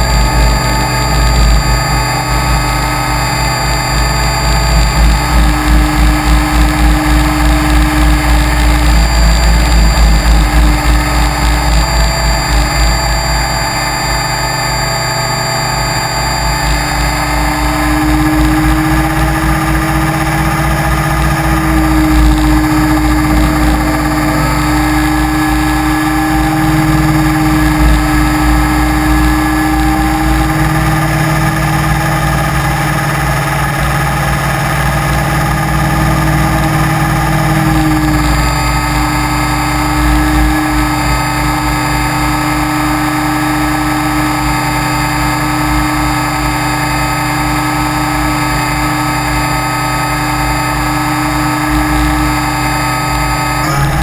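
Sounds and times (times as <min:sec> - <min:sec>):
model aircraft motor whine: 0:00.0 - 0:54.0.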